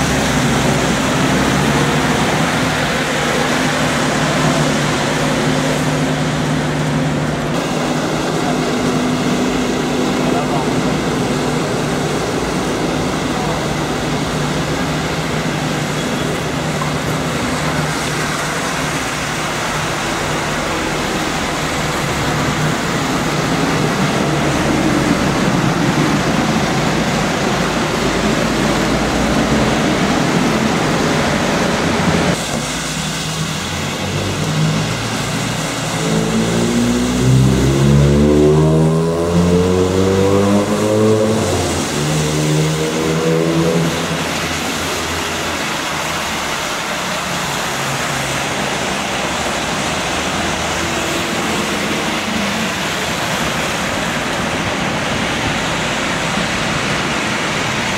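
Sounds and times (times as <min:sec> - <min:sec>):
bus engine accelerating: 0:00.0 - 0:57.9
traffic hiss on wet road: 0:00.0 - 0:57.9.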